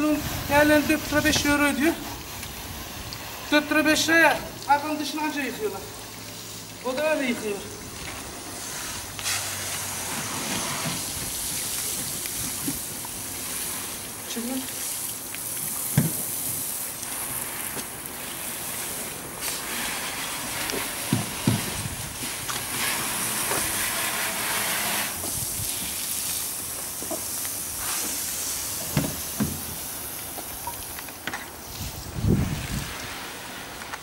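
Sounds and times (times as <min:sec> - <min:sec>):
hose spraying water on car: 0:00.0 - 0:34.0.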